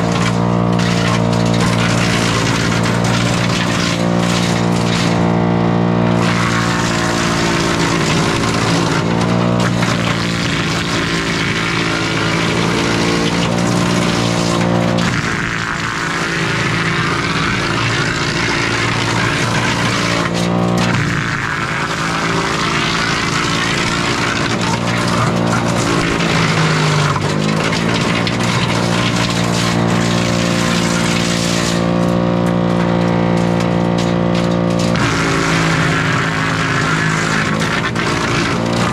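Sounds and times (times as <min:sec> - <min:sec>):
chipper engine hum: 0:00.0 - 0:38.9
wood chipper chipping: 0:00.0 - 0:38.9.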